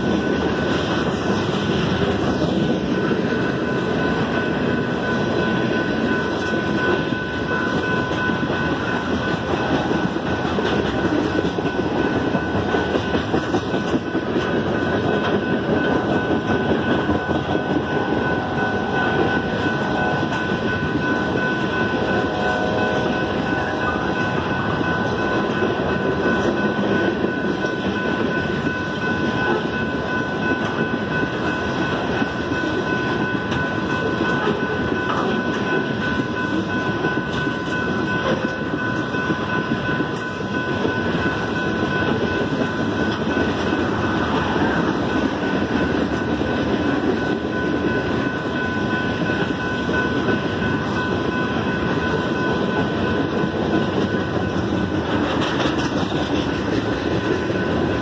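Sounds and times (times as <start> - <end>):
clacking over rail joints: 0.0 - 58.0
train wheels rumbling on rails: 0.0 - 58.0.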